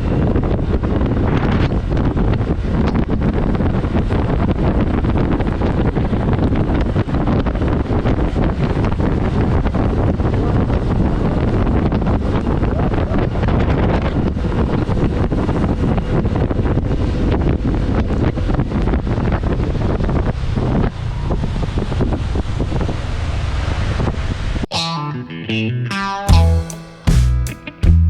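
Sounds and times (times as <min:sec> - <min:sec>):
wind buffeting microphone: 0:00.0 - 0:24.7.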